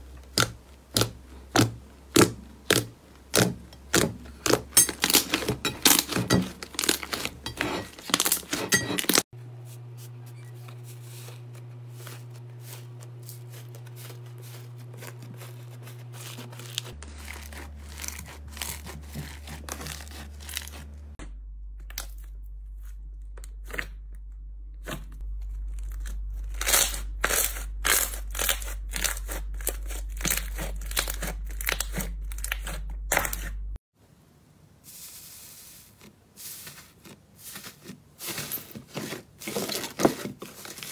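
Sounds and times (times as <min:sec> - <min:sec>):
steady low hum: 0:00.0 - 0:33.8.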